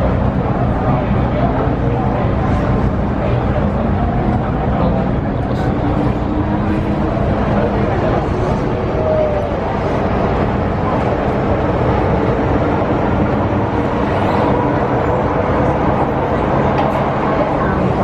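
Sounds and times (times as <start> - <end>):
train rumbling in a tunnel: 0.0 - 18.0.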